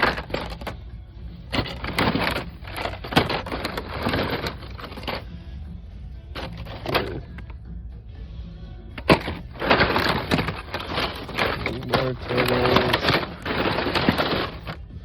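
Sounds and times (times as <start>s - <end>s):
toy packages clattering and rustling: 0.0s - 5.3s, 6.3s - 7.6s, 9.0s - 15.0s.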